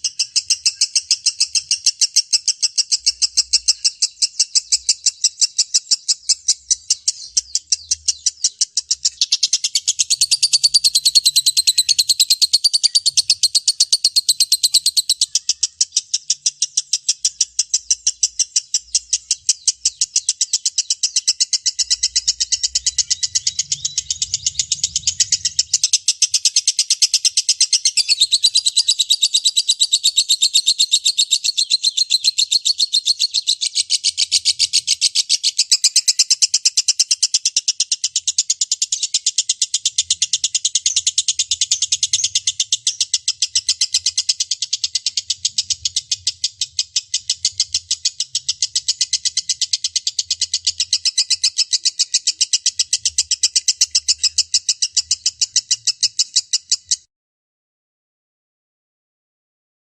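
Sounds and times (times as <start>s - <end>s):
lovebird shrill chatter: 0.0s - 57.0s.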